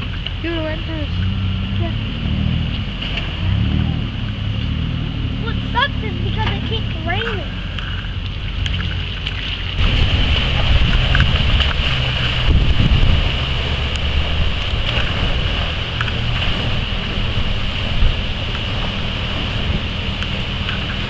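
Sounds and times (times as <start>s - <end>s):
car engine running: 0.0s - 21.0s
water rushing and splashing: 0.0s - 21.0s.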